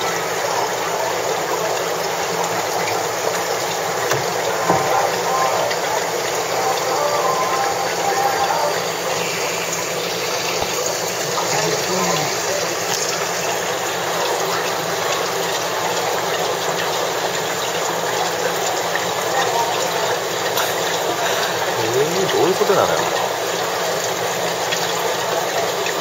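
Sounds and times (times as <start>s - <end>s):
aquarium water rushing hiss: 0.0s - 16.8s, 17.6s - 25.4s.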